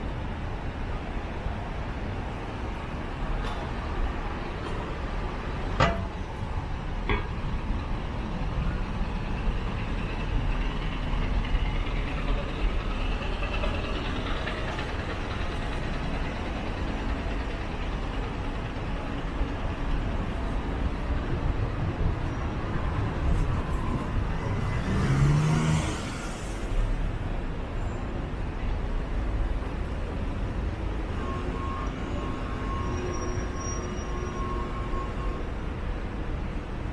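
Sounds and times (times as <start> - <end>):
passing cars rumbling: 0.0 - 31.3.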